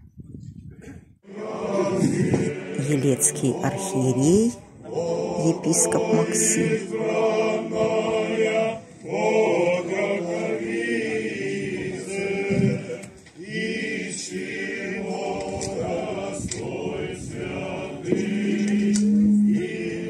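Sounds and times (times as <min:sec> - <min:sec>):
group of voices chanting: 0:01.2 - 0:20.0.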